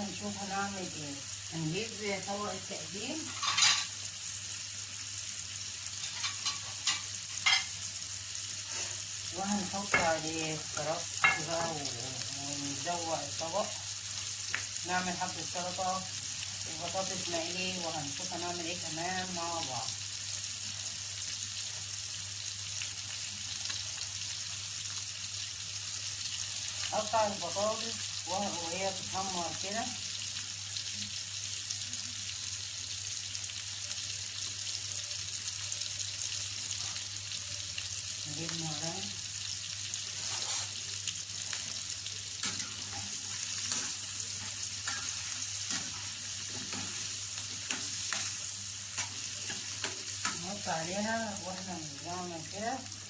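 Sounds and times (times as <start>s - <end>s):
potatoes sizzling in hot oil: 0.0s - 53.0s.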